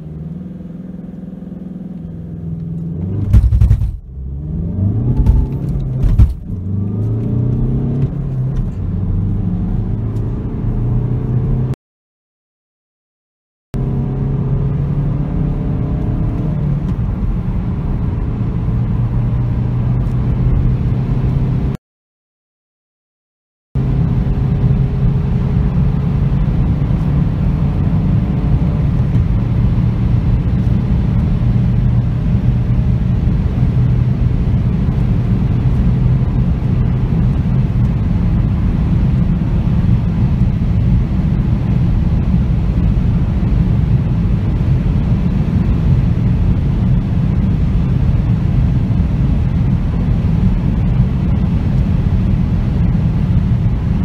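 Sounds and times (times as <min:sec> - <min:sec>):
car engine drone: 0:00.0 - 0:11.8, 0:13.8 - 0:21.8, 0:23.8 - 0:54.0
road and wind noise: 0:00.0 - 0:11.8, 0:13.8 - 0:21.8, 0:23.8 - 0:54.0.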